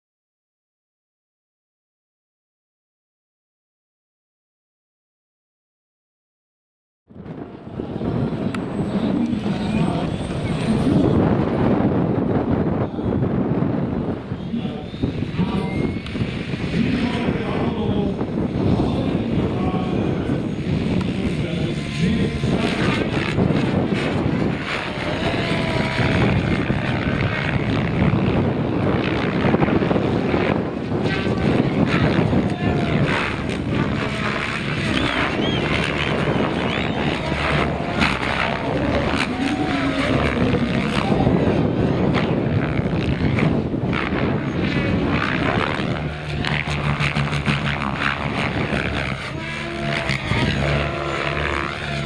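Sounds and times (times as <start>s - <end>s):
wind rumbling on microphone: 7.1s - 52.0s
rc helicopter rotor whine: 7.4s - 52.0s.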